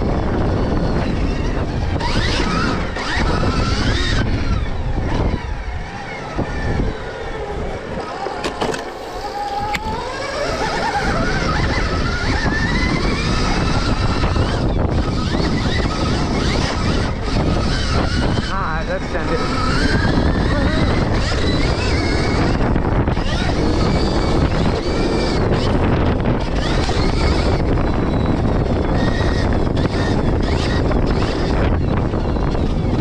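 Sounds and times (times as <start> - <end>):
electric motor whine: 0.0 - 33.0
steady rushing noise: 0.0 - 33.0.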